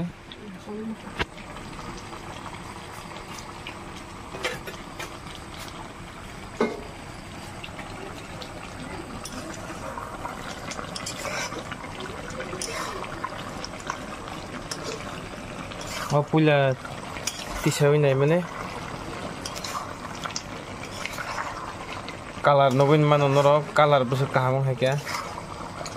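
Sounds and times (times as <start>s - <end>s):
curry bubbling: 0.0s - 25.9s.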